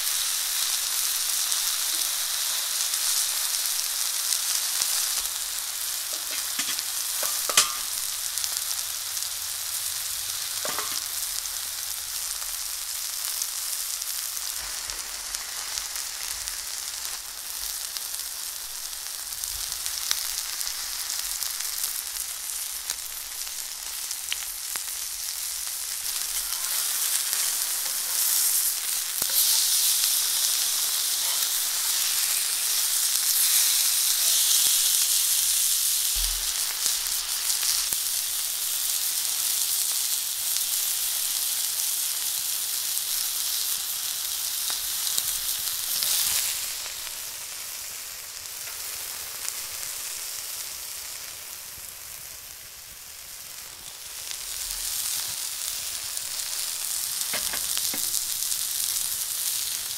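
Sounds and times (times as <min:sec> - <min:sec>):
chicken sizzling in a pan: 0:00.0 - 0:59.9.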